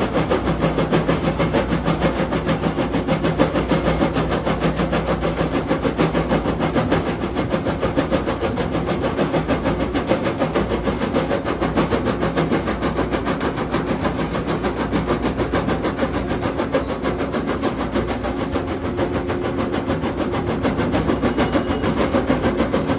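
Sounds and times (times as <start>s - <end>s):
excavator engine running: 0.0s - 22.9s.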